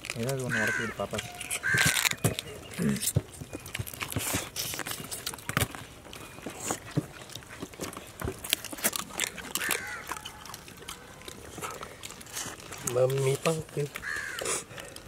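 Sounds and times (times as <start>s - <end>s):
crab shells crunching while chewing: 0.0s - 15.0s.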